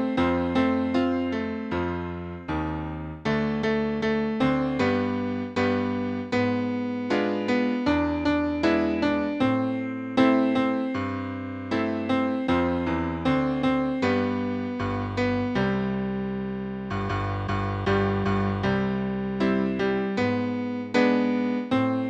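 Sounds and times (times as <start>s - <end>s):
electric piano melody: 0.0s - 22.0s.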